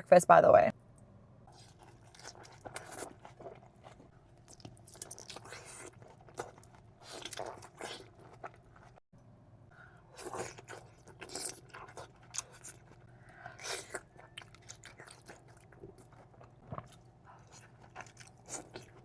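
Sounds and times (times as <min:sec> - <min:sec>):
person chewing crunchy food: 0:01.5 - 0:09.0, 0:10.0 - 0:19.0.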